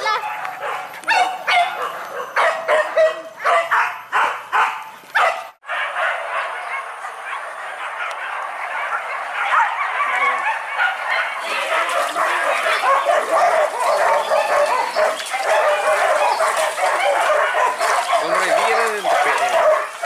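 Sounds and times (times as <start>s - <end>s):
chorus of dogs barking: 0.0s - 20.0s
dogs barking: 0.0s - 20.0s.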